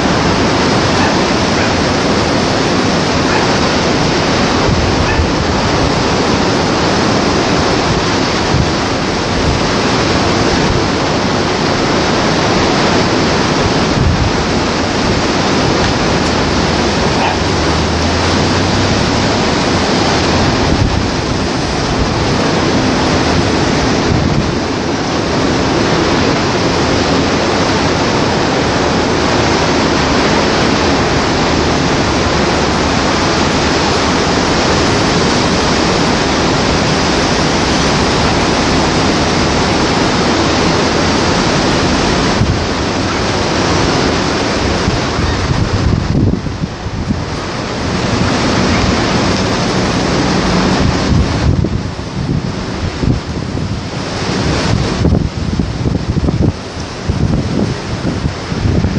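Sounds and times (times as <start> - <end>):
passing road traffic: 0.0 - 55.1
heavy surf breaking: 0.0 - 58.9
wind: 0.0 - 58.9.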